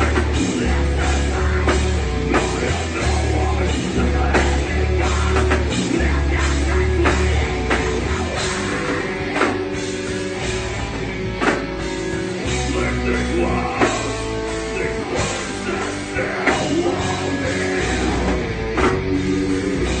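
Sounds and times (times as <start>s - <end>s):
person singing: 0.0s - 9.8s, 12.4s - 20.0s
bass: 0.0s - 20.0s
distorted guitar: 0.0s - 20.0s
drums: 0.0s - 20.0s.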